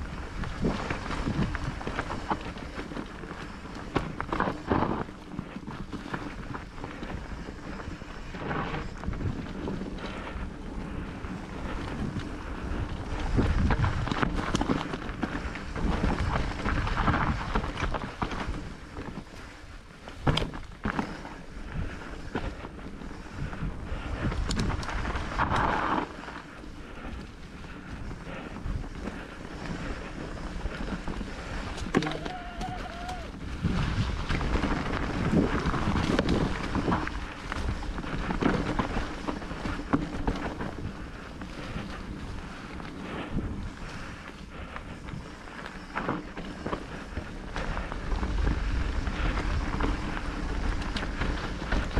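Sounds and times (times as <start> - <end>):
mountain bike rumbling and rattling: 0.0 - 51.9
wind buffeting microphone: 0.0 - 51.9.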